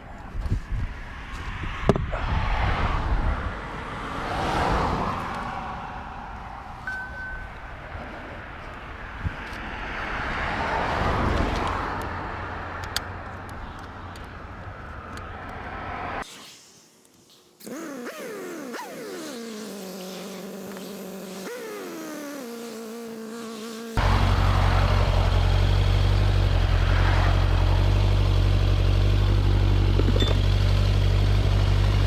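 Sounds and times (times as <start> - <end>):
vehicles passing at speed: 0.0 - 16.3, 18.1 - 32.0.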